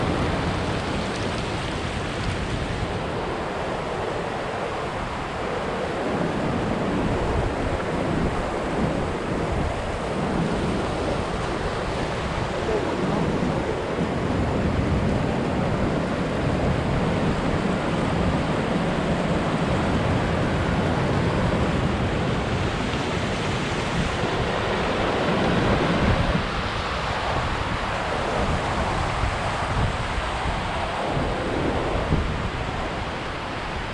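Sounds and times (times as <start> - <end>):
waterfall water rushing: 0.0 - 14.6, 15.2 - 33.9.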